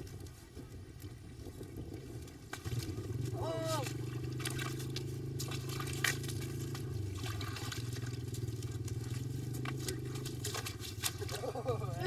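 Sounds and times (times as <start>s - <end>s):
wet watery sounds: 0.0s - 12.0s
low hum: 1.9s - 12.0s.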